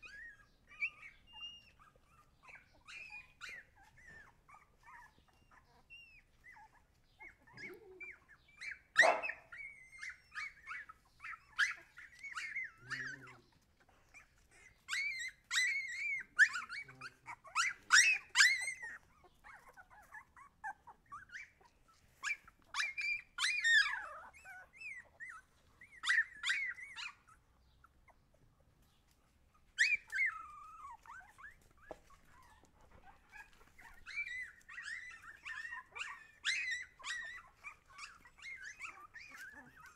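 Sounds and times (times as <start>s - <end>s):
puppies whimpering and squealing: 0.0s - 39.9s.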